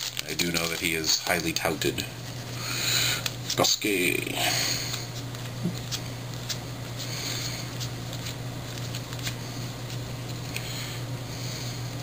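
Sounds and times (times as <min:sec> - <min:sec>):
cards swishing: 0:00.0 - 0:04.0, 0:04.7 - 0:10.9
steady low hum: 0:00.0 - 0:12.0.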